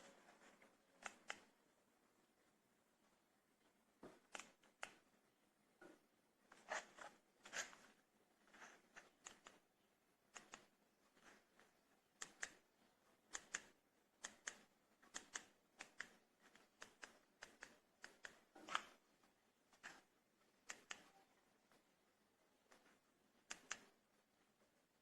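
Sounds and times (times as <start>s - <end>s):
faint clicks and taps: 3.0s - 25.0s.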